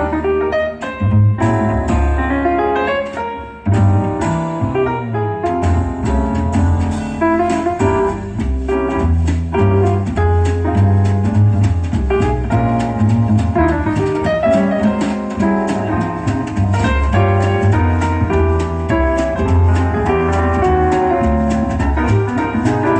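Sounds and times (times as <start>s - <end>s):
piano music with bass and drums: 0.0s - 22.9s.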